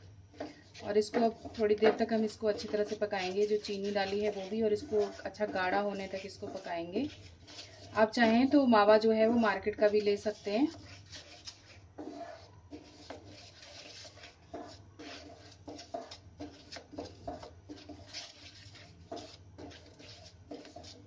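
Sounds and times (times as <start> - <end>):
wooden spatula scraping a pan: 0.0 - 21.0.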